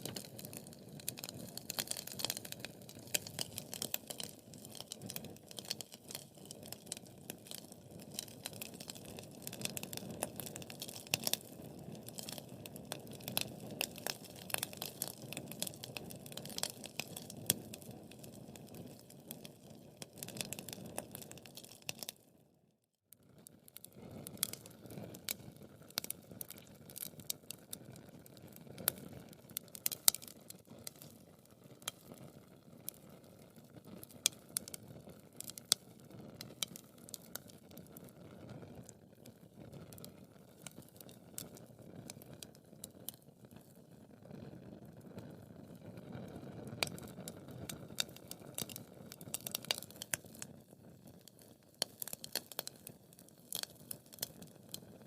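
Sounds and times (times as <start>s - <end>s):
wood fire crackling: 0.0s - 22.2s, 23.4s - 55.0s.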